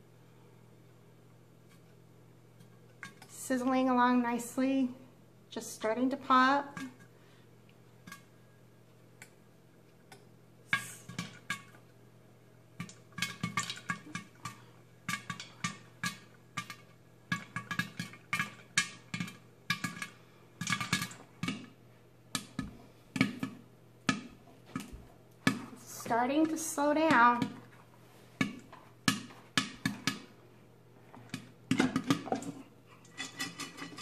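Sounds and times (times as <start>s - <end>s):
popcorn popping in a pot: 1.4s - 4.8s, 5.5s - 27.8s, 28.4s - 30.4s, 31.3s - 34.0s.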